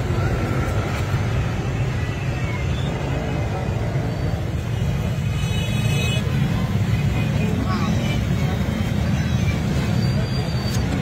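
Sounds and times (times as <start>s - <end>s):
street and traffic rumble: 0.0s - 11.0s.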